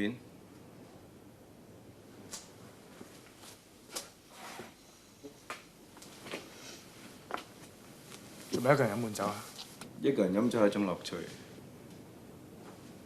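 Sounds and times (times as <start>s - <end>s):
low room noise: 0.0s - 13.0s.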